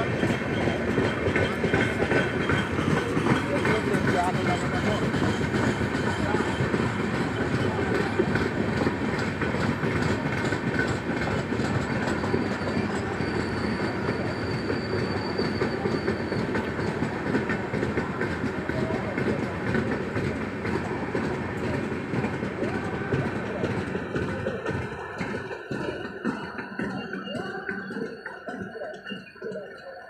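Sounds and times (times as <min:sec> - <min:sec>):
train wheels clattering over rails: 0:00.0 - 0:30.0.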